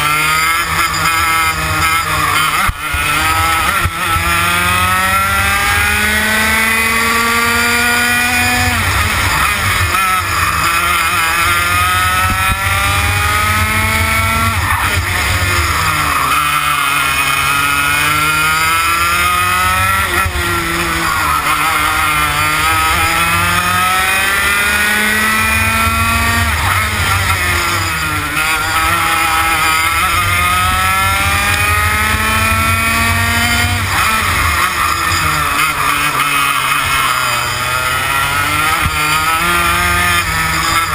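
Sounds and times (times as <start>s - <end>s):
kart engine accelerating: 0.0s - 40.9s.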